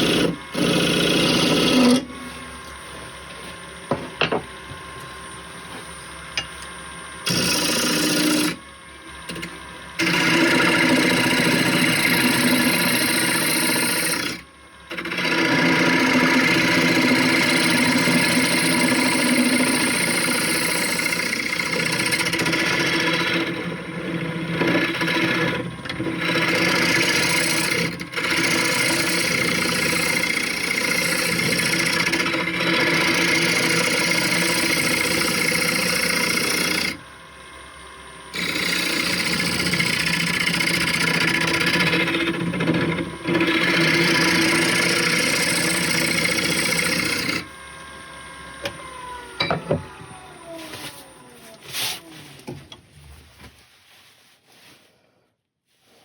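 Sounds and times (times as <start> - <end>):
wood lathe humming: 0.0 - 52.9
tool cutting spinning wood: 0.0 - 53.4.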